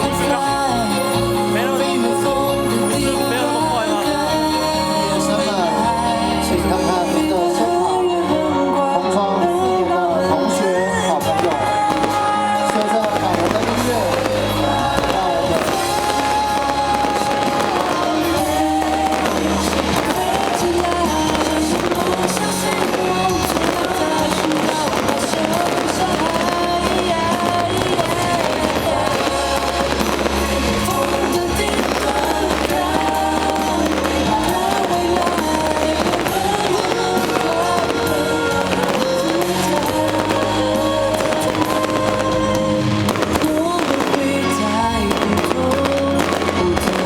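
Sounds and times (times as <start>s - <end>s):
fireworks bursting and crackling: 0.0s - 9.8s, 10.4s - 47.0s
loud music with bass line: 0.0s - 47.0s.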